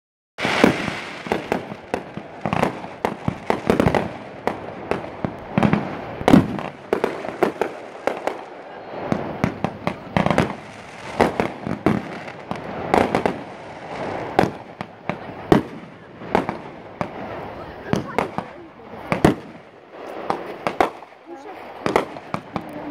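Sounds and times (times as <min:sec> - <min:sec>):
fireworks bangs and crackles: 0:00.4 - 0:22.9.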